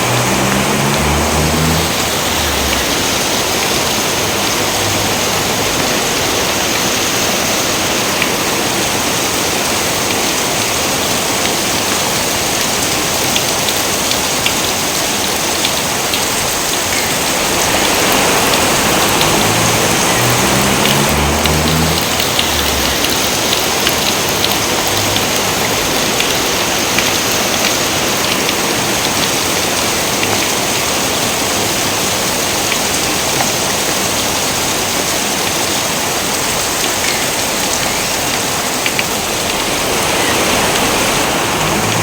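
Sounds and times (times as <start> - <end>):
heavy rain hiss: 0.0 - 42.0
raindrop ticks: 0.0 - 42.0.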